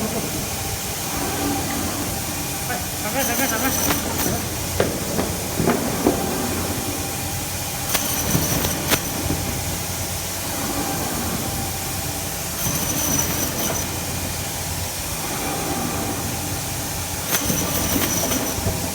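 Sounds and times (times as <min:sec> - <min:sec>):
band saw humming: 0:00.0 - 0:18.9.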